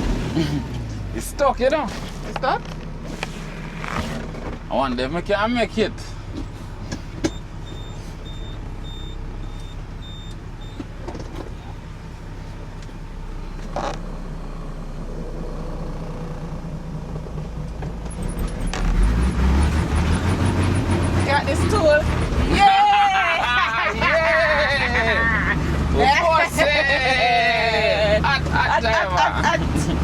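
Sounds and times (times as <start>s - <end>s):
truck engine labouring: 0.0s - 30.0s.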